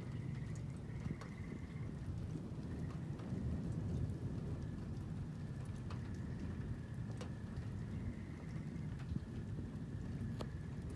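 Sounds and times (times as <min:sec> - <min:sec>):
steady rain: 0:00.0 - 0:10.9.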